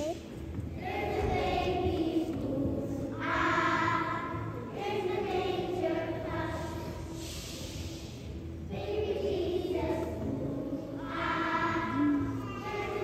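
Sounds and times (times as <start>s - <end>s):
children's choir singing: 0.6s - 13.0s.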